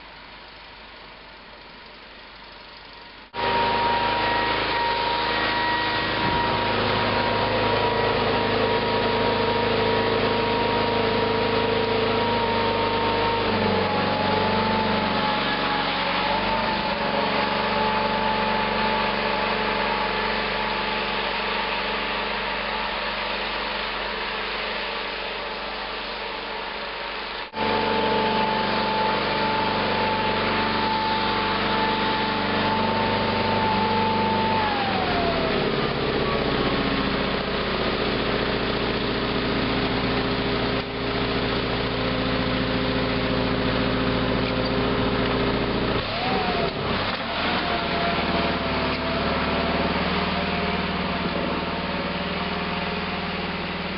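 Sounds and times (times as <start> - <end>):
garden tractor engine running: 0.0 - 53.9
high steady whine: 0.0 - 53.9.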